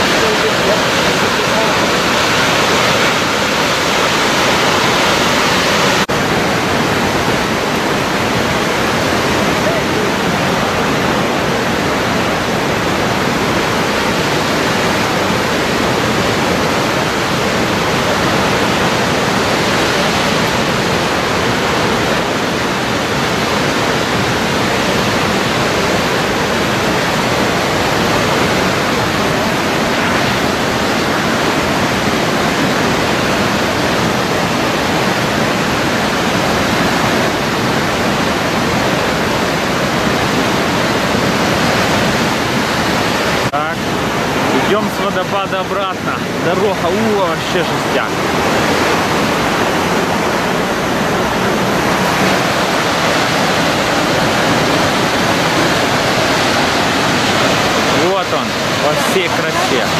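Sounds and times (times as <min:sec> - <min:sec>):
waterfall roar: 0:00.0 - 0:59.9.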